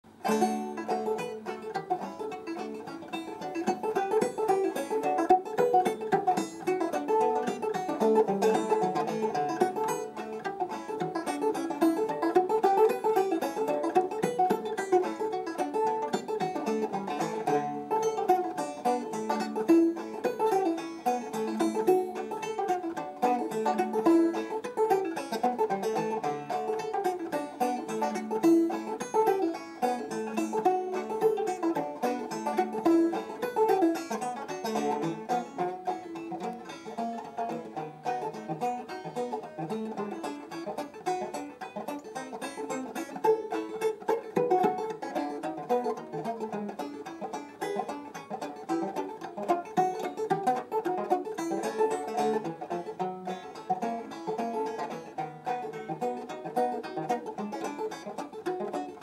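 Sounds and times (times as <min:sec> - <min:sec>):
banjo ragtime tune: 0:00.0 - 0:59.0.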